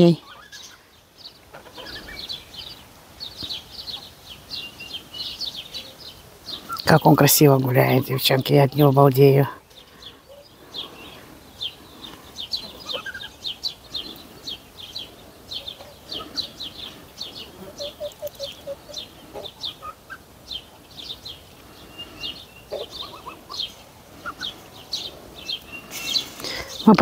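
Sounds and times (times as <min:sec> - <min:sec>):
poultry clucking: 0:00.0 - 0:04.2, 0:06.5 - 0:27.0
birds chirping: 0:00.0 - 0:27.0.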